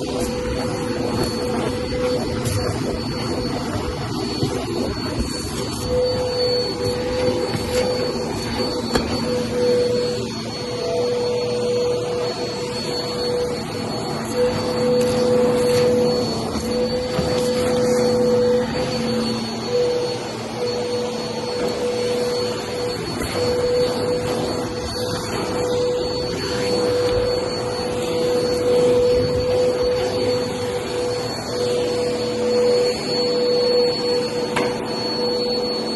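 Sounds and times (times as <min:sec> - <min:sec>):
vacuum cleaner on carpet: 0:00.0 - 0:35.9.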